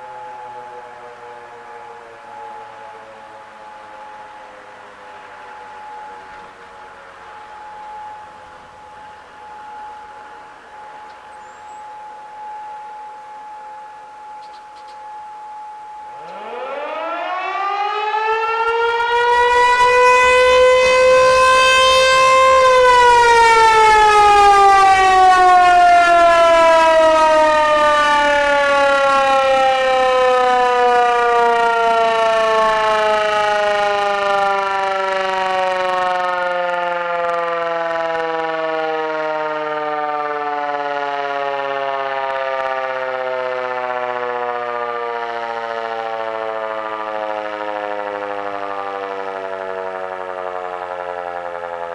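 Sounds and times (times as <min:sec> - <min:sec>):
rotating warning siren wailing: 0:00.0 - 0:51.9.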